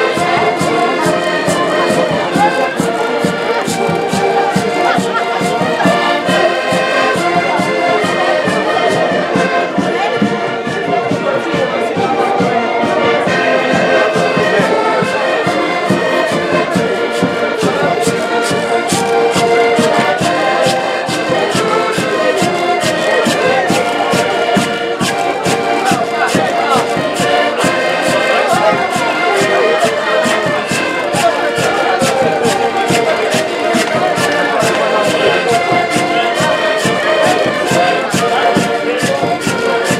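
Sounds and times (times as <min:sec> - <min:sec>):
accordions playing lively tune: 0:00.0 - 0:39.9.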